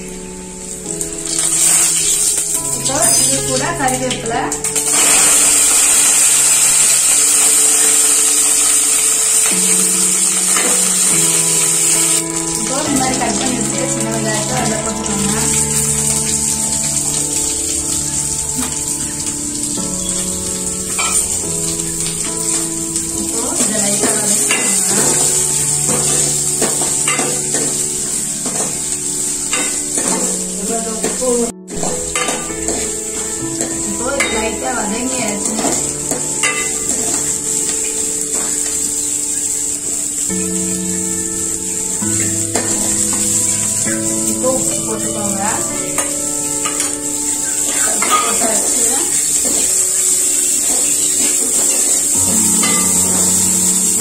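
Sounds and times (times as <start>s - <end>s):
leaves sizzling in hot oil: 0.0s - 54.0s.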